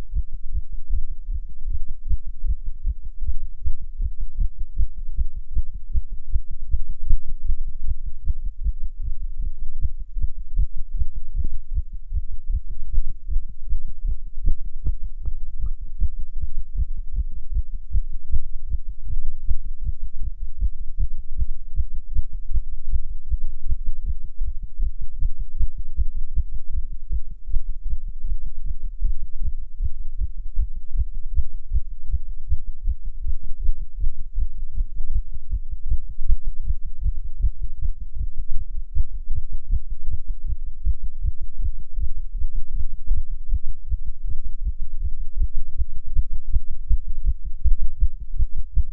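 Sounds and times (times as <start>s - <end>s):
fast heartbeat: 0.0s - 48.9s.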